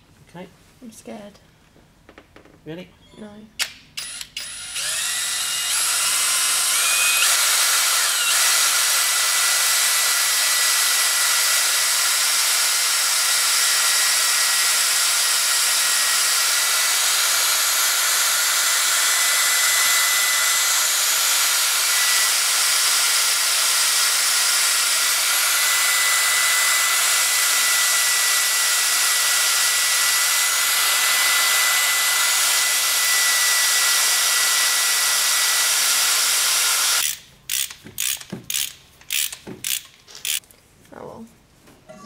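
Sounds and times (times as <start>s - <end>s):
cordless drill drilling metal: 4.0s - 40.4s.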